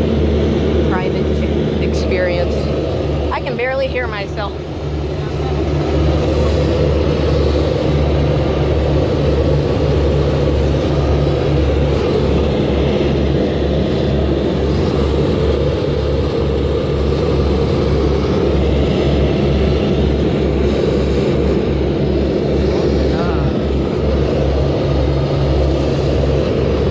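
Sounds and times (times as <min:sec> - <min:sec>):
low engine drone: 0:00.0 - 0:26.9.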